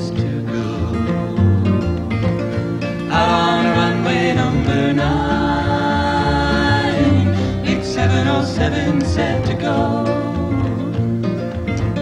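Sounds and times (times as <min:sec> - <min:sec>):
acoustic guitar: 0:00.0 - 0:12.0
folk trio singing in harmony: 0:00.0 - 0:12.0.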